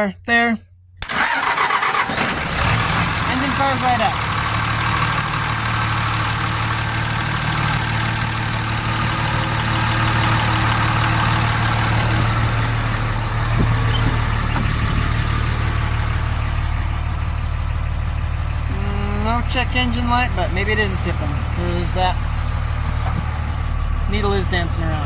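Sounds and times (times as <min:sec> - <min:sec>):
pickup engine idling: 0:01.0 - 0:25.0.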